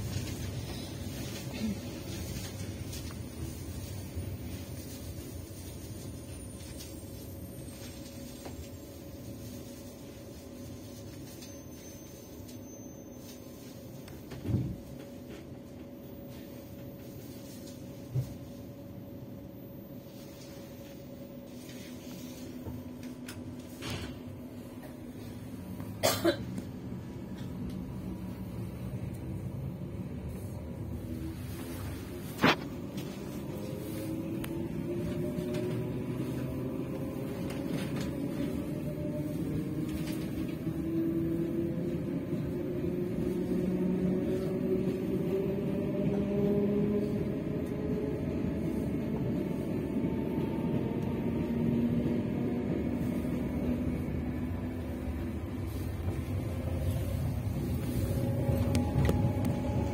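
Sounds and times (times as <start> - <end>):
train carriage hum: 0.0 - 59.9.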